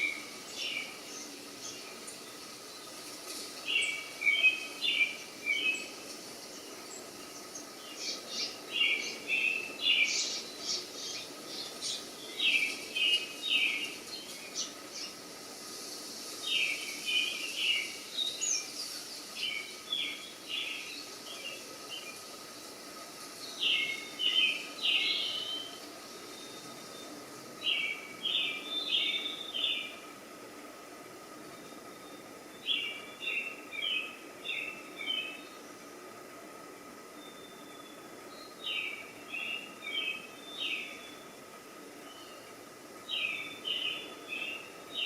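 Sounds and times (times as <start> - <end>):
small bird singing: 0.0 - 30.3, 31.3 - 36.1, 37.0 - 45.0
faint steady hiss: 0.0 - 45.0.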